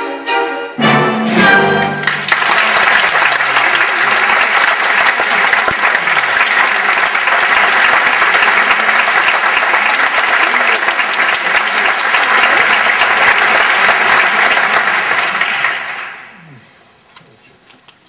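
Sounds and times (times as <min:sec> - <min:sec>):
audience applauding: 0:01.8 - 0:16.6.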